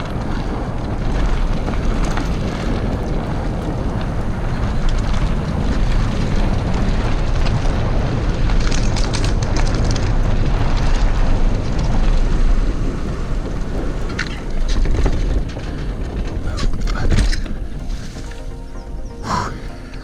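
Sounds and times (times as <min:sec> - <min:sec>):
bike tyres on dirt: 0:00.0 - 0:20.0
wind buffeting microphone: 0:00.0 - 0:20.0.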